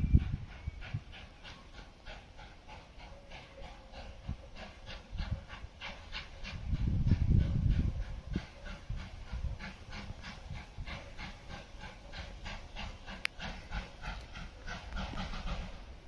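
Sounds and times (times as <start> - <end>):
distant steam locomotive exhaust beats: 0.0 - 16.0.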